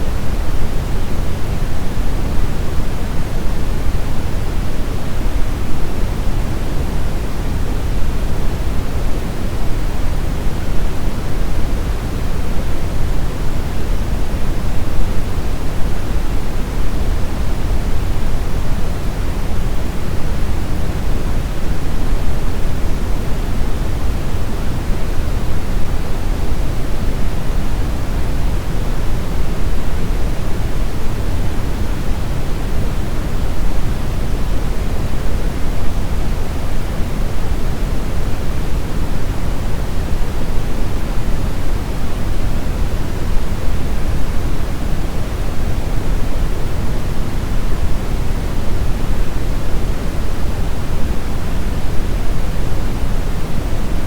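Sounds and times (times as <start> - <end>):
brown noise rumbling hiss: 0.0 - 54.0.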